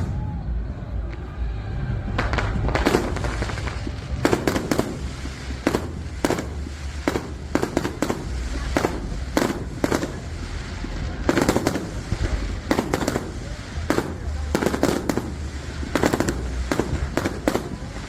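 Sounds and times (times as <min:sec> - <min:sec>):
fireworks bangs: 0:00.0 - 0:18.0
low rumble: 0:00.0 - 0:18.0.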